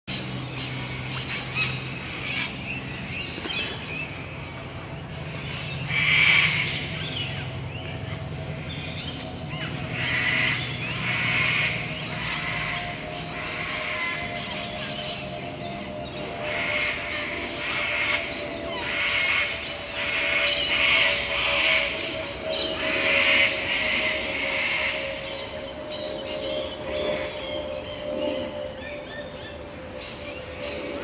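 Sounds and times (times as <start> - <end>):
low steady hum: 0.1 - 31.0.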